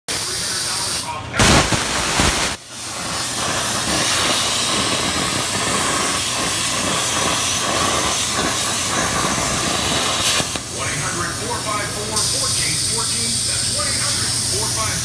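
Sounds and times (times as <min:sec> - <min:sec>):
plasma cutter hissing: 0:00.1 - 0:15.0.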